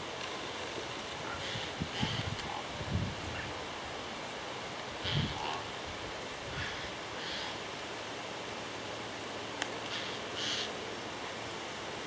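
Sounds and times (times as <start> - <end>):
wind in leafy trees: 0.0 - 12.0.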